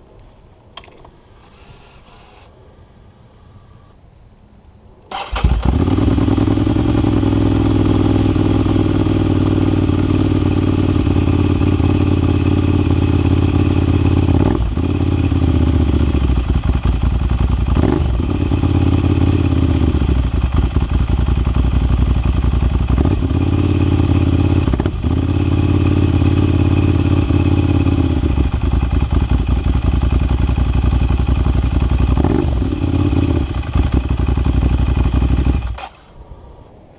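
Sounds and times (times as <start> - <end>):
motorcycle engine idling: 5.1 - 35.9.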